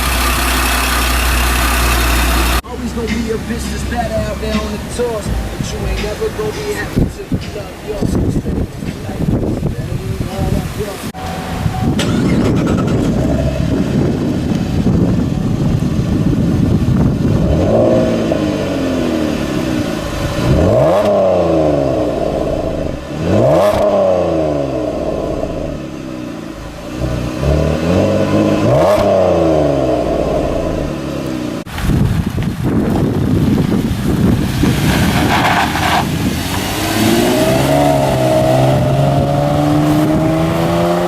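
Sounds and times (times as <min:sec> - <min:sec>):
car engine revving: 0:00.0 - 0:31.8, 0:33.2 - 0:41.0.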